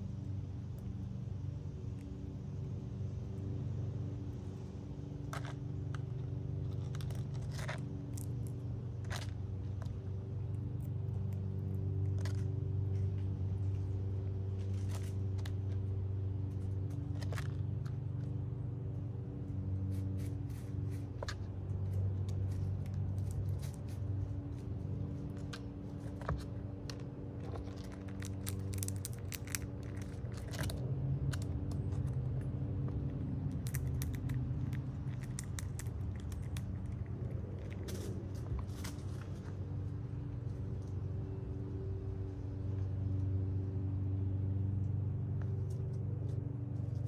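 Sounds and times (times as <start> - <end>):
squirrel cracking seeds: 0.0 - 47.0
steady low hum: 0.0 - 47.0.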